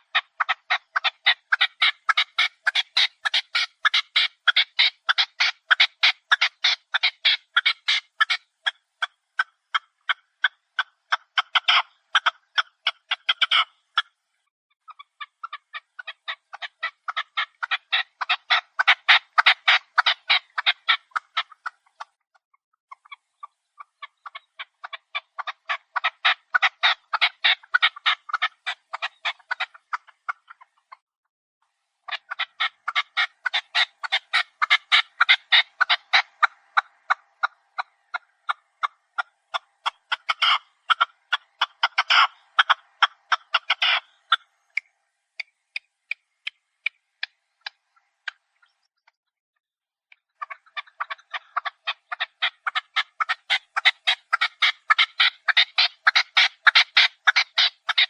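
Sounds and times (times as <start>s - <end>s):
partridge clucking calls: 0.0s - 31.0s, 31.6s - 49.2s, 50.1s - 58.0s.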